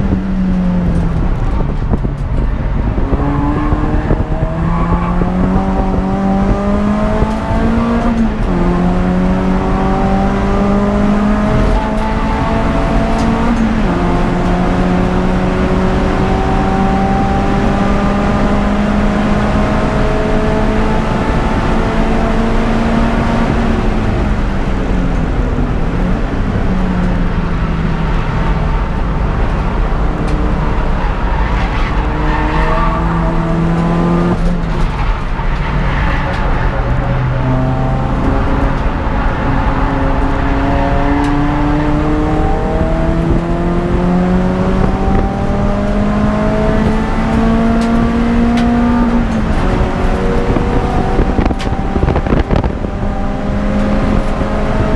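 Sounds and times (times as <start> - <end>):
race car engine pulling hard: 0.0 - 54.9.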